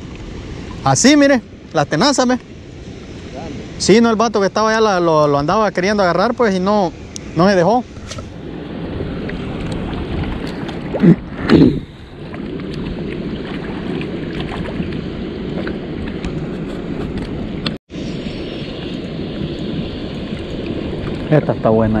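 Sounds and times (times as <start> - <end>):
rushing outdoor noise: 0.0 - 22.0.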